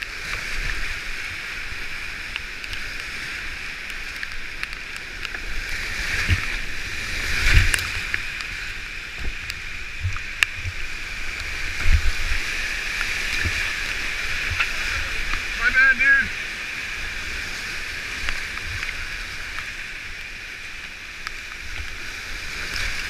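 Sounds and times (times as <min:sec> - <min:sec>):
water splashing against boat: 0:00.0 - 0:23.0
whitewater rapids roaring: 0:00.0 - 0:23.0.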